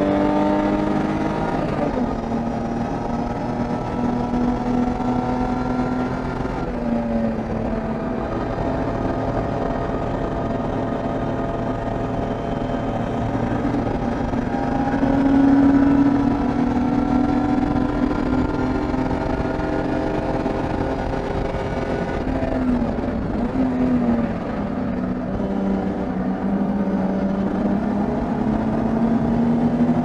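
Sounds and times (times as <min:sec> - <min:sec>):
race car engine running hard: 0:00.0 - 0:30.0.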